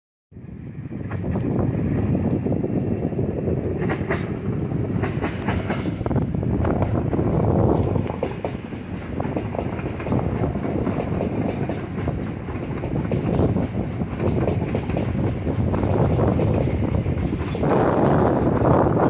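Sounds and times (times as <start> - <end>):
train rumble: 0.4 - 19.0.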